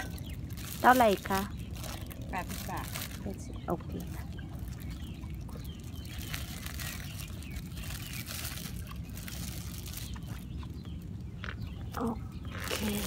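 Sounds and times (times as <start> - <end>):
plastic bag crinkling: 0.0 - 10.6, 12.5 - 13.0
steady low rumble: 0.0 - 13.0.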